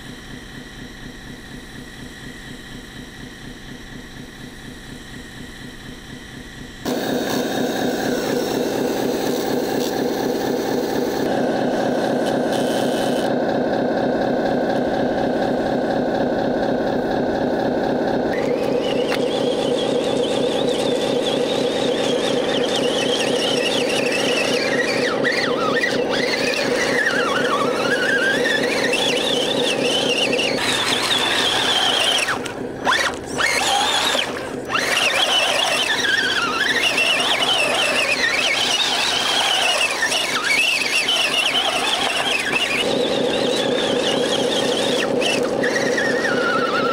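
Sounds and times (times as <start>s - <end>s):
higher rising and falling whine: 0.0s - 46.9s
rc truck motors whining: 0.0s - 46.9s.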